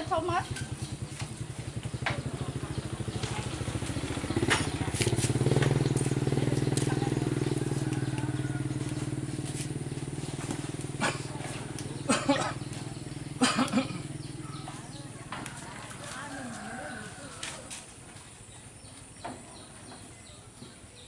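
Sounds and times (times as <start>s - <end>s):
small engine pulsing: 0.0s - 17.2s.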